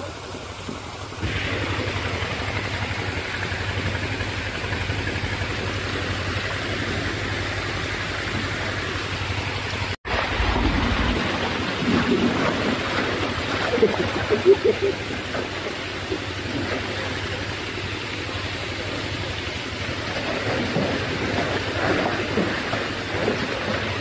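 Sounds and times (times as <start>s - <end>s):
diesel pump engine humming: 0.0s - 24.0s
water gushing from pump: 0.0s - 24.0s.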